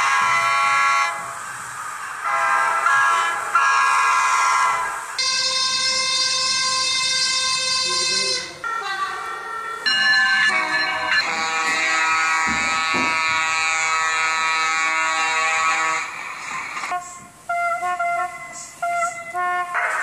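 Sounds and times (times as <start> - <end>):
train air horn blasts: 0.0 - 8.6, 9.9 - 20.0.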